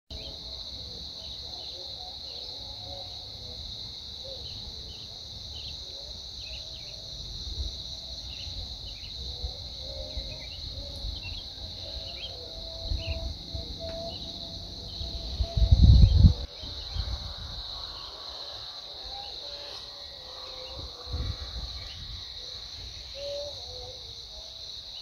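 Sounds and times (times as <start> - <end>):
crickets trilling: 0.1 - 25.0
faint insect chirps: 0.1 - 25.0.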